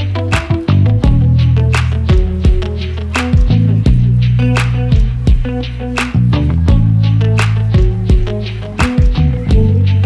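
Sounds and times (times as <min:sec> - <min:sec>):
music with bass and drums: 0:00.0 - 0:10.0.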